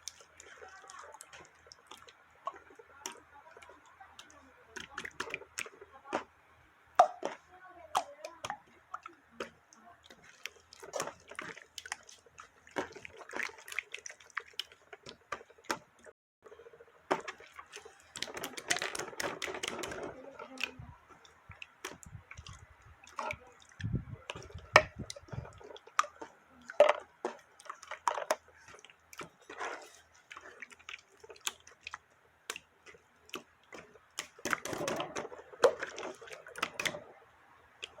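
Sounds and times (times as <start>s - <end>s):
slime squishing with wet pops: 0.0s - 16.1s, 17.1s - 38.0s.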